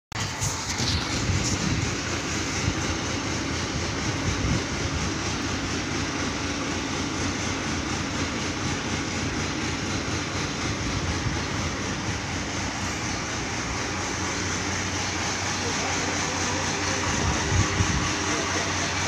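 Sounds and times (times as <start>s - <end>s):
crane diesel engine running: 0.1s - 19.0s.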